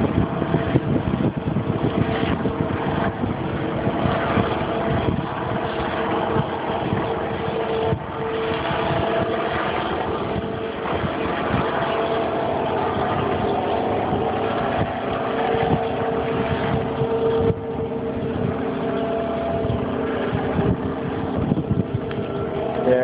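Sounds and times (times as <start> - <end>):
mechanical hum: 0.0 - 23.0
wind rumbling on microphone: 0.0 - 23.0.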